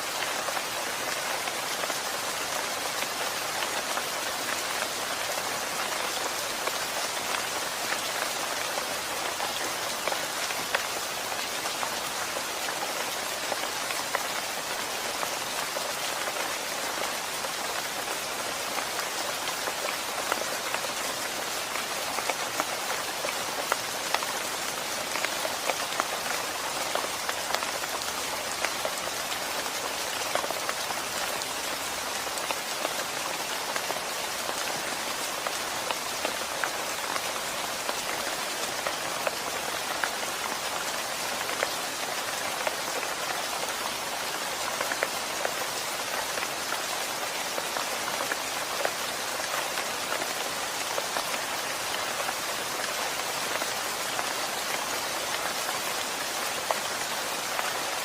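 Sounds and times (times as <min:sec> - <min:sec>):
patter of raindrops close by: 0:00.0 - 0:58.0
steady rain falling: 0:00.0 - 0:58.0.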